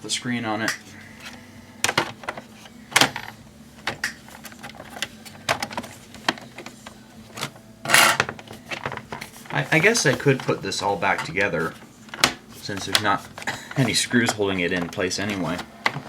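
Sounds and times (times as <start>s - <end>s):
plastic scraping: 0.7s - 16.0s.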